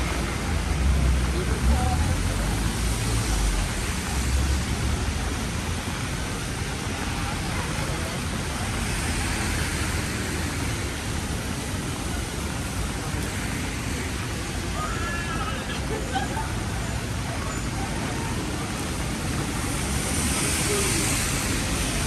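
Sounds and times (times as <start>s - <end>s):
heavy rain on street: 0.0s - 22.0s
traffic swishing on wet road: 0.0s - 22.0s.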